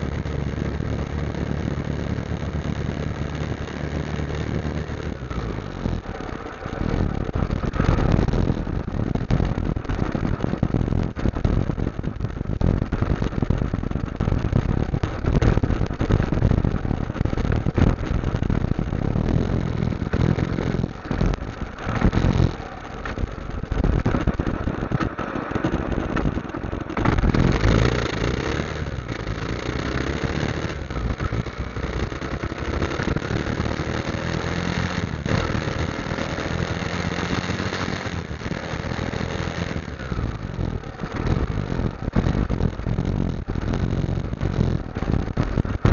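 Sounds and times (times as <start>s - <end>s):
motorcycle engine running: 0.0s - 45.9s
wind buffeting on microphone: 0.0s - 45.9s.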